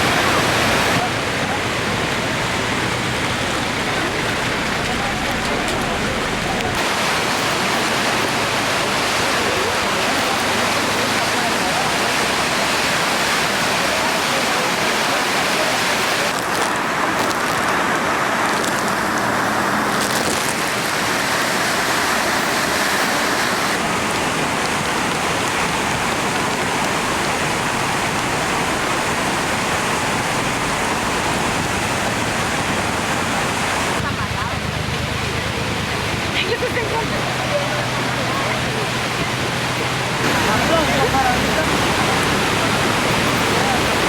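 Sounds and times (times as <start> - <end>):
water rushing: 0.0 - 44.0.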